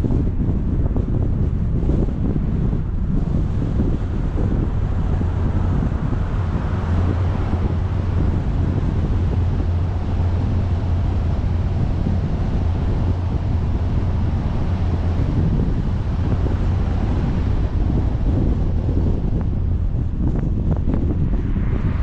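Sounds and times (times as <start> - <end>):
low rumble: 0.0 - 22.0
wind buffeting microphone: 0.0 - 22.0.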